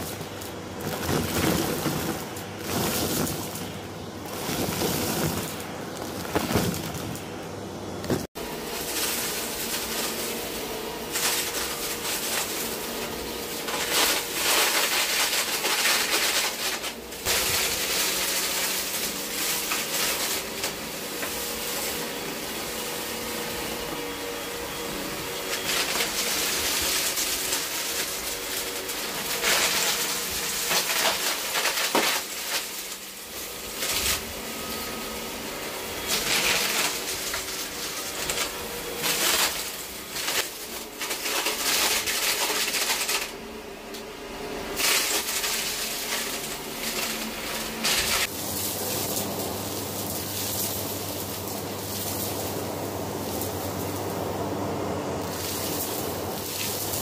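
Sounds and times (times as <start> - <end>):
vacuum sucking up sand and grit: 0.0 - 7.4, 8.1 - 43.6, 44.3 - 57.0
upright vacuum cleaner running: 0.0 - 57.0.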